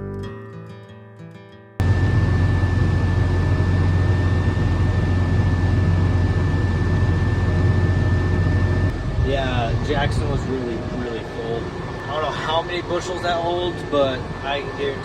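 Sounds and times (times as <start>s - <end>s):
harvest machinery engine hum: 1.8s - 15.0s
steady high whine: 1.8s - 15.0s.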